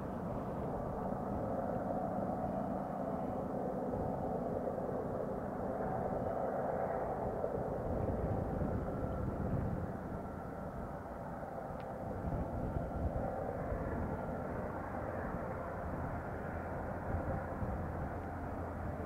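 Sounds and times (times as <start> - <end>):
distant diesel locomotive drone: 0.0 - 19.0.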